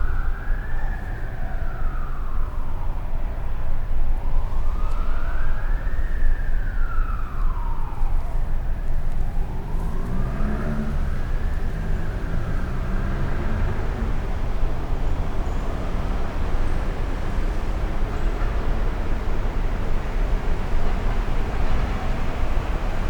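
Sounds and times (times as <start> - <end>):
low traffic rumble: 0.0 - 23.0
wailing siren: 0.0 - 23.0.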